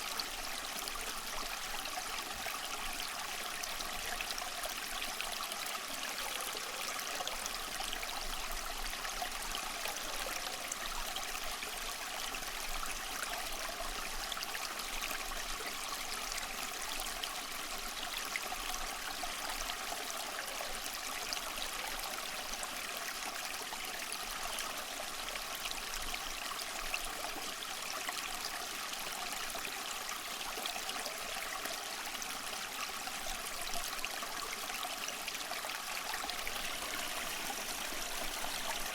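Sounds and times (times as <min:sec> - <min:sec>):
water trickling from a fountain: 0:00.0 - 0:38.9.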